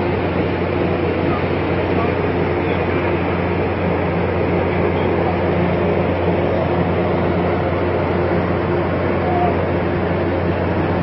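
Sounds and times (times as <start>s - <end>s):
constant rushing noise: 0.0s - 11.0s
ship machinery low hum: 0.0s - 11.0s.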